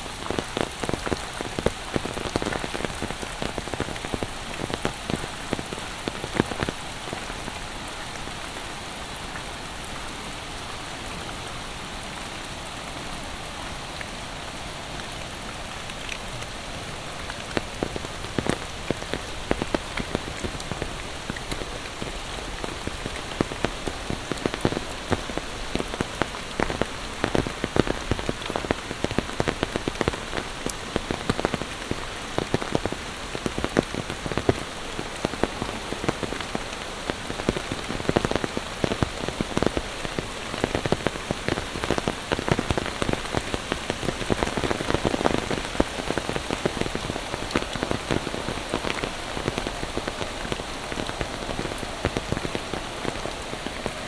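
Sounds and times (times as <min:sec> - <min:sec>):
rain hiss: 0:00.0 - 0:54.0
raindrops hitting and dripping: 0:00.0 - 0:54.0.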